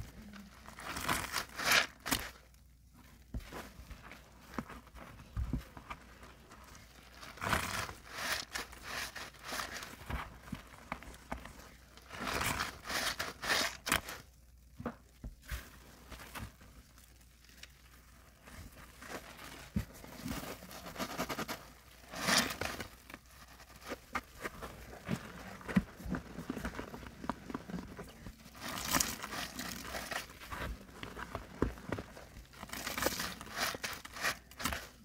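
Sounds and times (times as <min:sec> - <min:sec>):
sponges squelching in sudsy water: 0:00.0 - 0:35.0.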